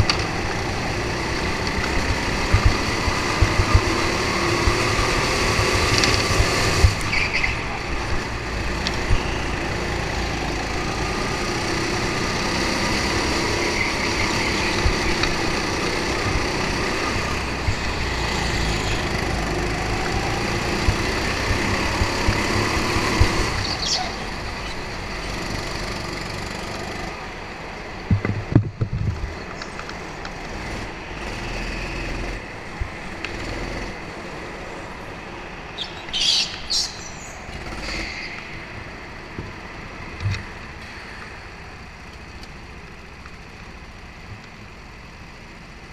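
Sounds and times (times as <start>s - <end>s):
go-kart engine: 0.0s - 45.9s.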